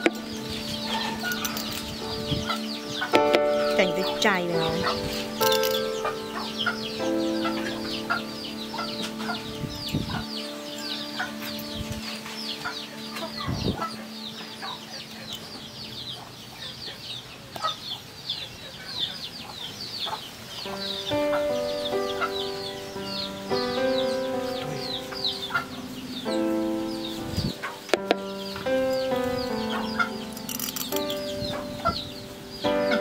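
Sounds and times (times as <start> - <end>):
background music sustained notes: 0.0 - 33.0
chicks peeping: 0.0 - 33.0.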